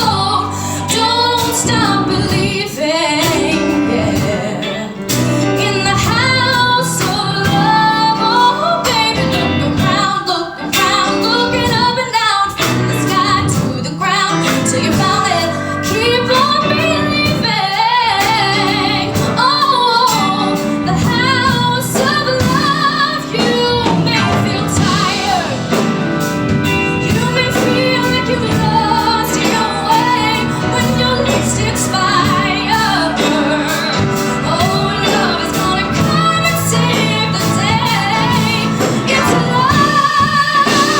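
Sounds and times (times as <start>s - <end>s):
instrumental accompaniment: 0.0s - 40.9s
woman singing a pop ballad: 0.0s - 40.9s.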